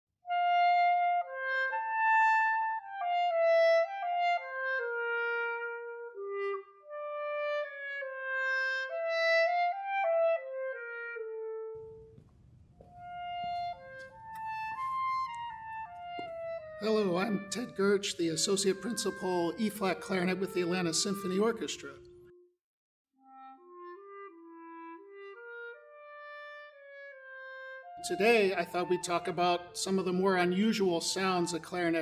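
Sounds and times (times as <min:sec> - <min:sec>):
solo clarinet melody: 0:00.2 - 0:22.5, 0:23.2 - 0:32.0.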